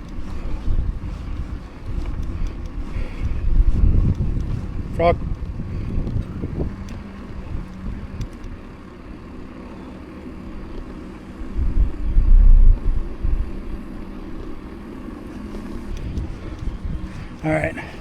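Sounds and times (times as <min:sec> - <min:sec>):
bike tyres rumbling on pavement: 0:00.0 - 0:18.0
wind buffeting microphone: 0:00.0 - 0:18.0.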